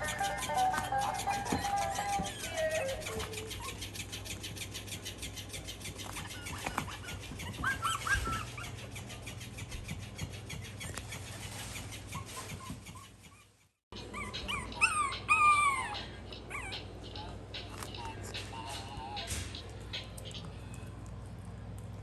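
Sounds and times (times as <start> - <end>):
puppies whimpering and yipping: 0.0 - 20.6.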